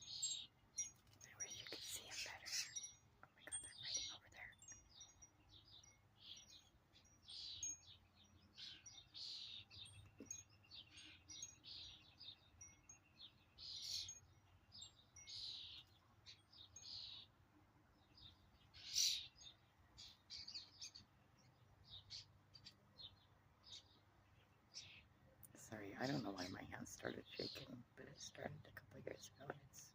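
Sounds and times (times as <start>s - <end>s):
small birds chirping and squabbling: 0.0s - 29.9s.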